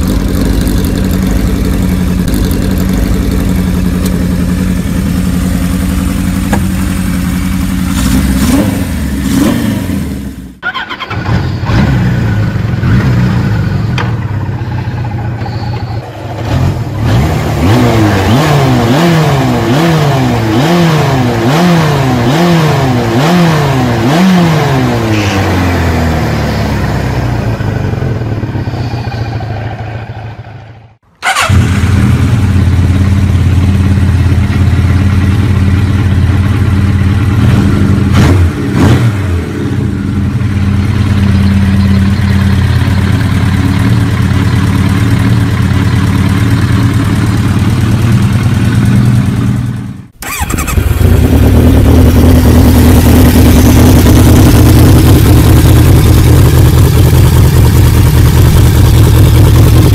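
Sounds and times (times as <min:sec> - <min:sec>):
motorcycle engine revving: 0:00.0 - 0:59.9
motorcycle engine running steadily: 0:00.0 - 0:59.9.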